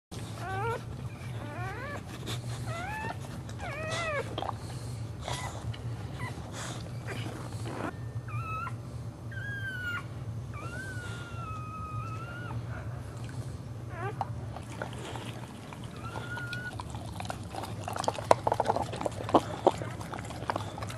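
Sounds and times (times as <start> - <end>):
dog whimpering and whining: 0.2 - 4.6, 5.2 - 13.0, 13.8 - 20.9.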